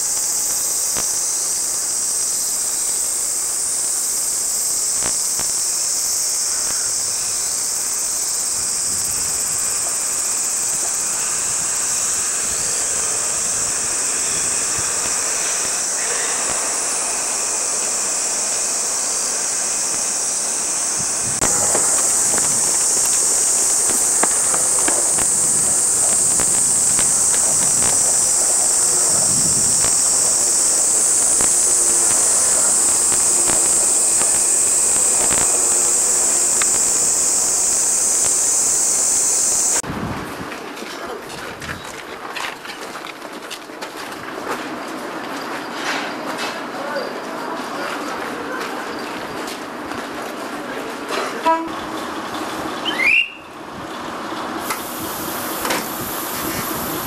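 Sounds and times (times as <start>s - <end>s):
cicadas droning: 0.0s - 39.8s, 44.2s - 57.0s.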